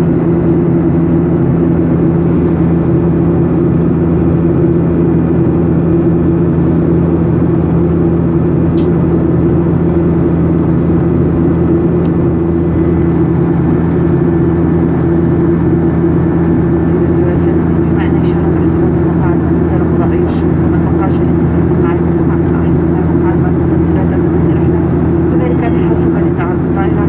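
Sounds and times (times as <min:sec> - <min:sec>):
jet engines droning in cabin: 0:00.0 - 0:27.0.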